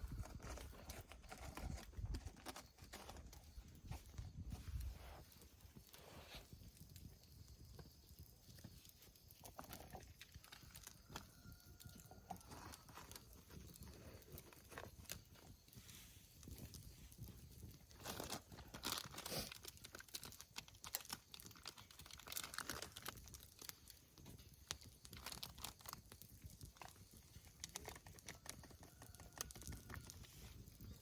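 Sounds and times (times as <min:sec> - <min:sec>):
sharp clicks and crunches: 0:00.0 - 0:06.0, 0:07.7 - 0:15.8, 0:16.4 - 0:31.0
crinkling and rustling: 0:00.0 - 0:31.0.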